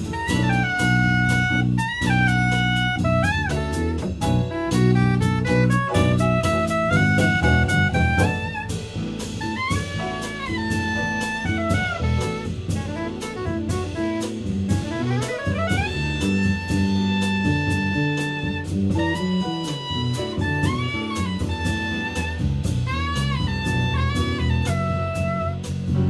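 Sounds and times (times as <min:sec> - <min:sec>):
bass: 0:00.0 - 0:26.0
drum kit cymbals: 0:00.0 - 0:26.0
horn section holding notes: 0:00.0 - 0:26.0
piano: 0:00.0 - 0:26.0.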